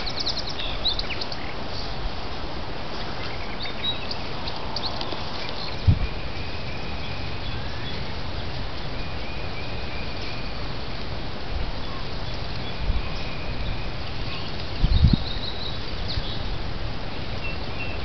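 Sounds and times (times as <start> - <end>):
steady microphone hiss: 0.0 - 18.0.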